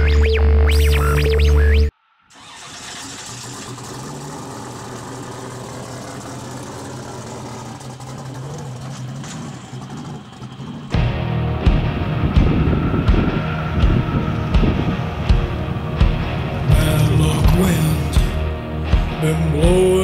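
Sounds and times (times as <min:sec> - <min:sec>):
race vehicle engine humming: 0:00.0 - 0:20.0.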